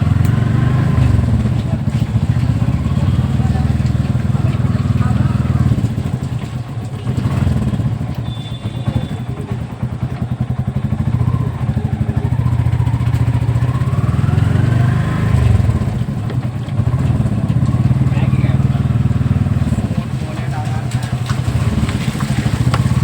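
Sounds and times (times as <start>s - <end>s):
small engine pulsing: 0.0s - 23.0s.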